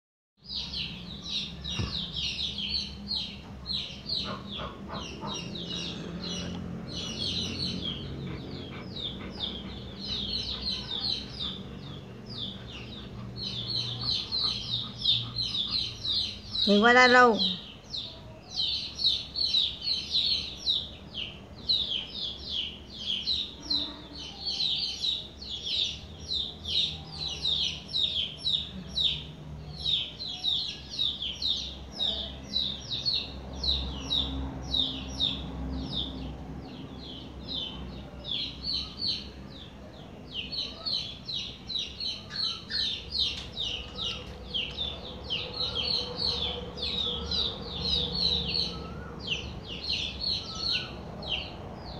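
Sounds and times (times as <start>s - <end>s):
small birds chirping rapidly: 0.4s - 51.9s.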